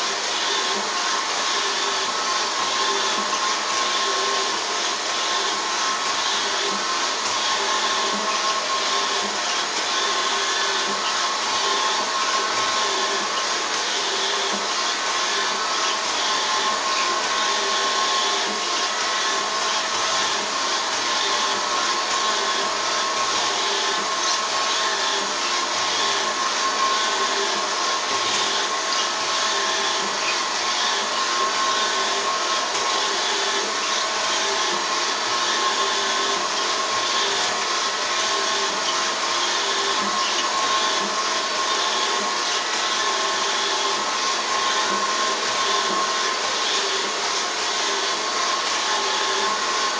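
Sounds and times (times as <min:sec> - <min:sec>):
robot vacuum cleaner motor whine: 0:00.0 - 0:49.9.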